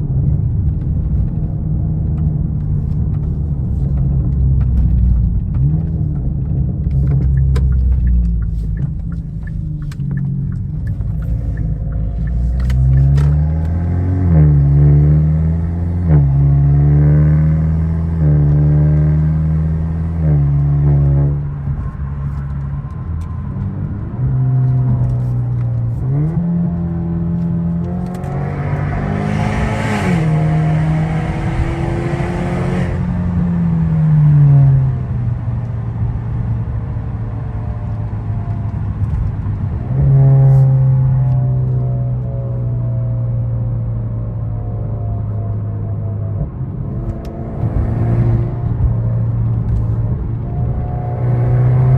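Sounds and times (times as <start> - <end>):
turbocharged car engine accelerating: 0.2 - 51.9.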